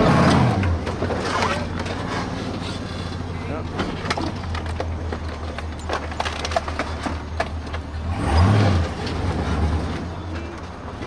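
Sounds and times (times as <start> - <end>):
truck engine droning: 0.0 - 11.0
truck knocking and rattling: 0.0 - 11.0.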